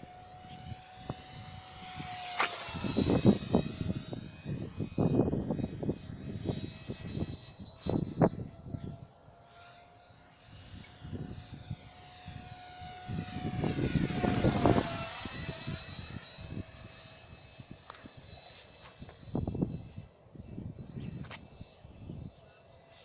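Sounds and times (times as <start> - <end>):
high-pitched electric ducted fan whine: 0.0 - 23.0
wind buffeting microphone: 0.2 - 9.0, 10.6 - 18.3, 19.0 - 22.4.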